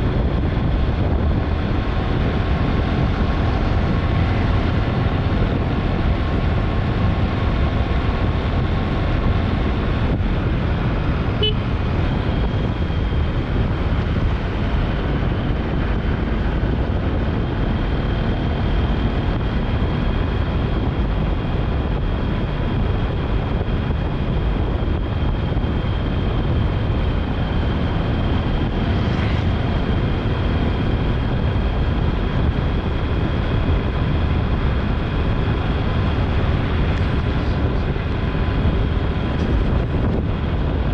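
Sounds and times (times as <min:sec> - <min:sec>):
faint engine hum: 0:00.0 - 0:40.9
road noise rumble: 0:00.0 - 0:40.9.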